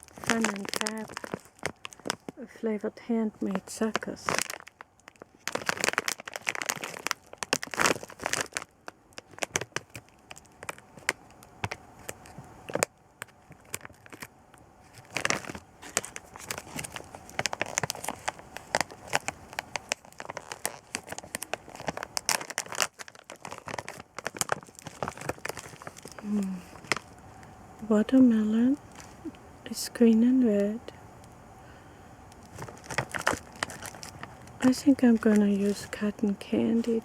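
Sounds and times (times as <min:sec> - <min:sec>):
plastic wrapping crinkling: 0:00.0 - 0:29.4, 0:32.3 - 0:37.0.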